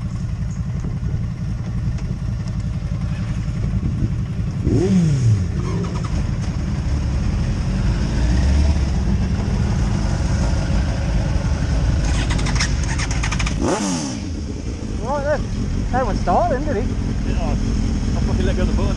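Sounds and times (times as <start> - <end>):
motorcycle engine revving: 0.0 - 18.9
motorcycle engines idling: 0.0 - 18.9.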